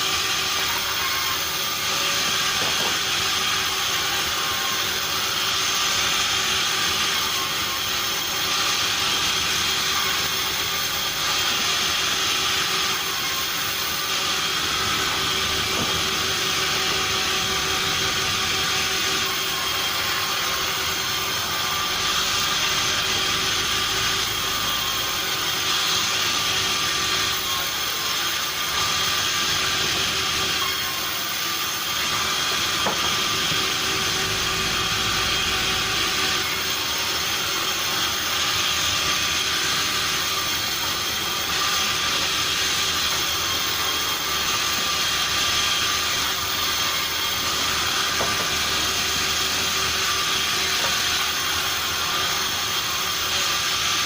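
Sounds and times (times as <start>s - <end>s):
sawmill machinery hissing: 0.0s - 54.0s.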